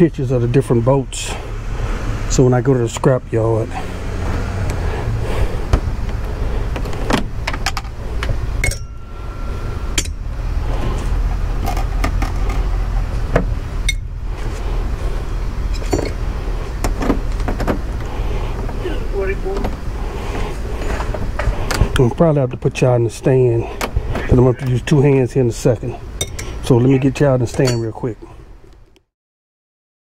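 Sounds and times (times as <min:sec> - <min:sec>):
steady low rumble: 0:00.0 - 0:28.7.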